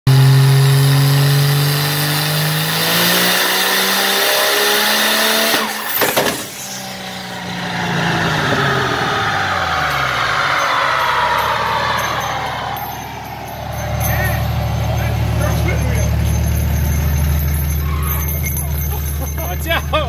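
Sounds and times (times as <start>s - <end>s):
diesel engine revving: 0.0s - 20.0s
turbocharger bursting bangs: 0.1s - 19.4s.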